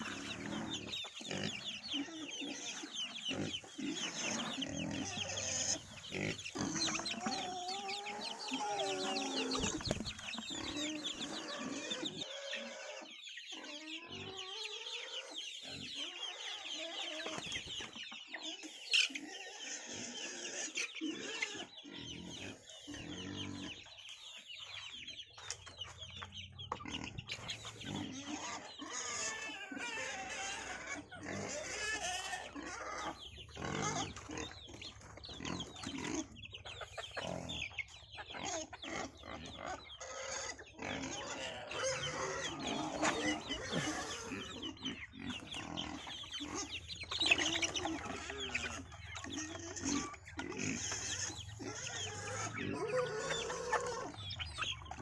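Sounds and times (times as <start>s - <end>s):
chickens clucking and cheeping: 0.0s - 55.0s.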